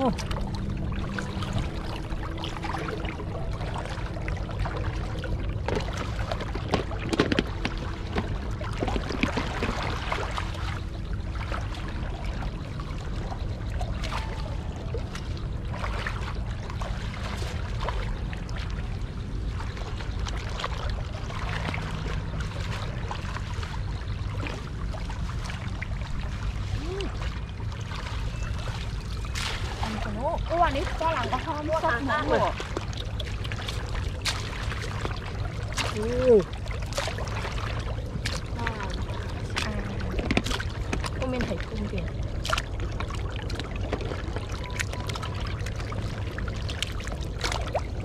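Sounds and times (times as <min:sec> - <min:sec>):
low rumble: 0:00.0 - 0:48.0
people wading through water: 0:00.0 - 0:48.0.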